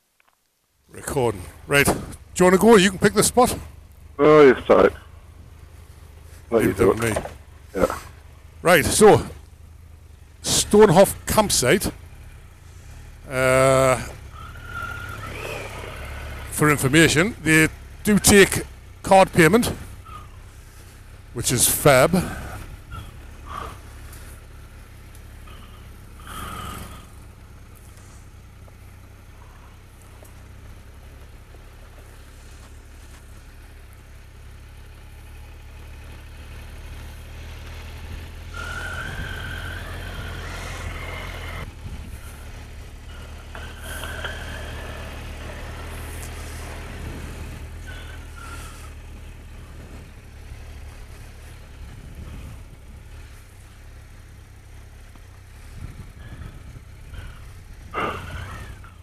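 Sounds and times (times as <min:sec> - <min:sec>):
motorcycle engine running: 0:00.9 - 0:59.0.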